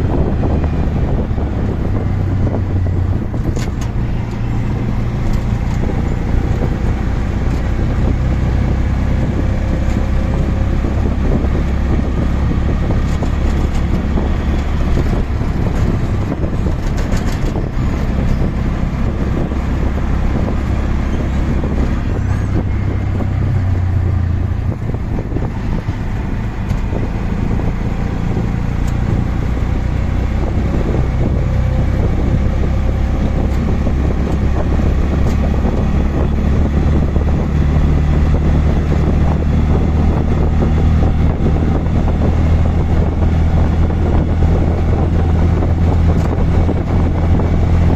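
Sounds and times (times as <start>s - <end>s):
auto rickshaw engine humming: 0.0s - 47.9s
road and traffic noise: 0.0s - 47.9s.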